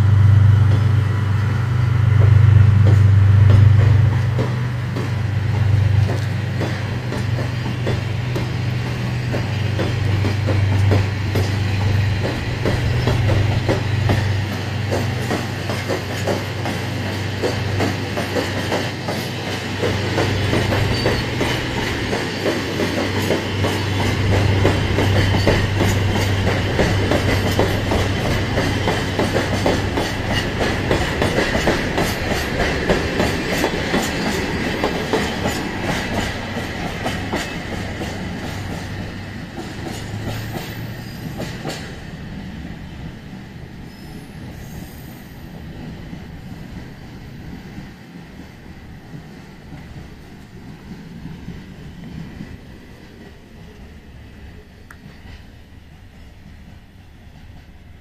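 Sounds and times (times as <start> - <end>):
low train rumble: 0.0 - 58.0
train wheels clickety-clack: 0.1 - 58.0.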